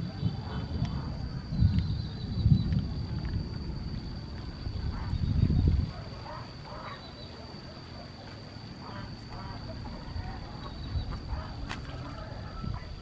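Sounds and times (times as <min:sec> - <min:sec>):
wind rumbling on microphone: 0:00.0 - 0:07.6, 0:08.5 - 0:13.0
steady high whine: 0:00.0 - 0:13.0.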